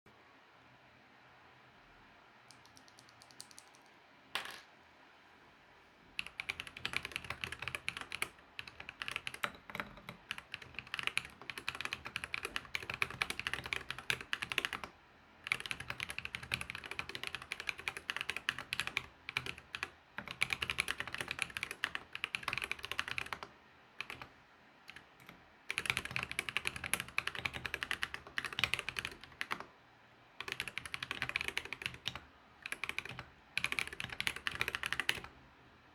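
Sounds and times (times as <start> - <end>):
mechanical keyboard typing: 2.5 - 4.0, 6.2 - 24.3, 24.9 - 29.7, 30.4 - 35.4.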